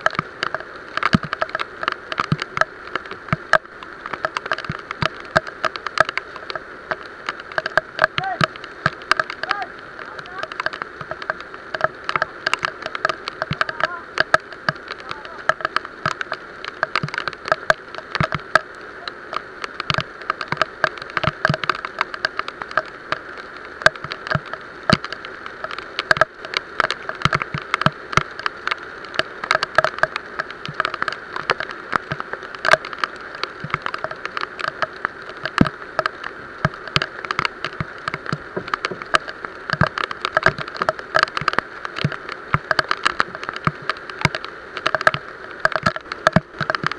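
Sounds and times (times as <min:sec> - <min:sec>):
heavy rain hissing on water: 0:00.0 - 0:46.9
raindrops hitting wooden boat: 0:00.0 - 0:46.9.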